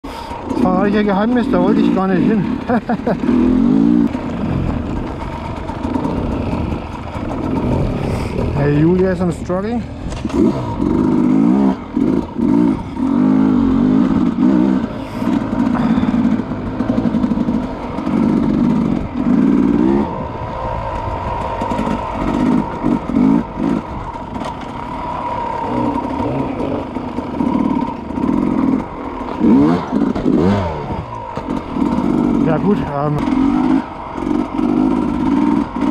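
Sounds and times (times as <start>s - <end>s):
dirt bike engine revving: 0.1s - 35.9s.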